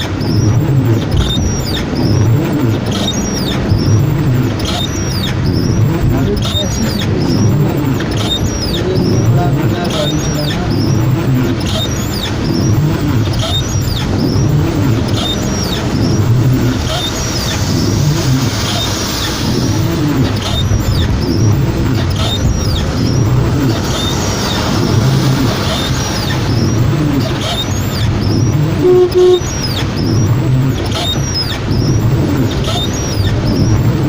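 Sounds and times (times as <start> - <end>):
short high squeaks: 0.0 - 33.8
car engine and road noise: 0.0 - 34.0
heavy rain: 0.0 - 34.0.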